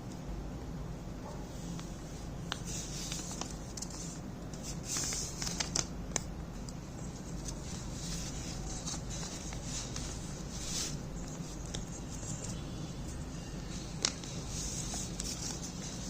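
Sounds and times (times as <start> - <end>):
steady low hum: 0.0 - 16.0
paper rustling and creasing: 2.6 - 16.0.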